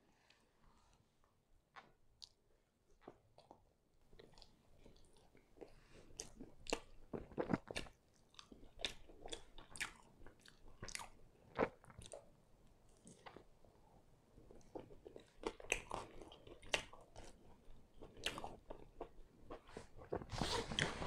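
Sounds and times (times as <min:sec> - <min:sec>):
person chewing pizza: 0:01.7 - 0:12.3, 0:12.9 - 0:13.5, 0:14.4 - 0:21.0.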